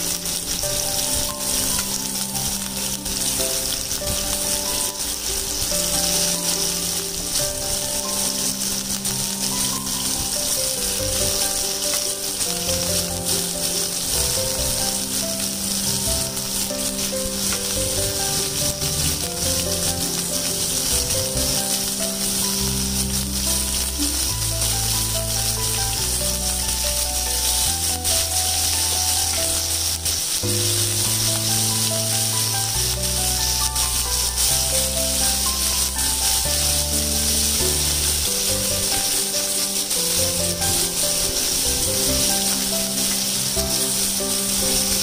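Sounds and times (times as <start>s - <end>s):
background music: 0.0s - 45.0s
prawns sizzling in hot oil: 0.0s - 45.0s.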